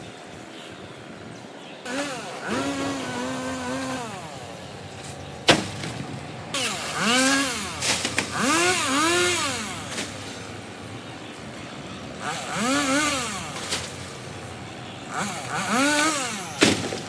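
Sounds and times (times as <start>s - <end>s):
chainsaw engine revving: 1.8s - 17.0s.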